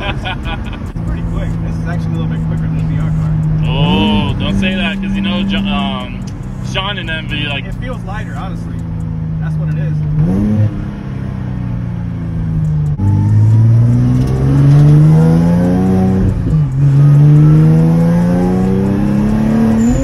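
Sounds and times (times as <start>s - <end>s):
car engine accelerating through gears: 0.8s - 20.0s.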